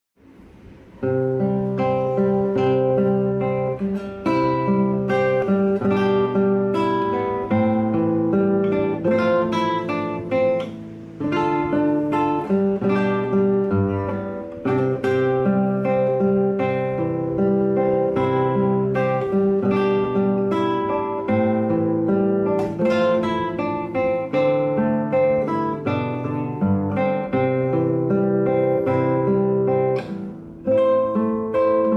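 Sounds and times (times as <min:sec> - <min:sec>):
acoustic guitar strumming: 0:00.2 - 0:31.9.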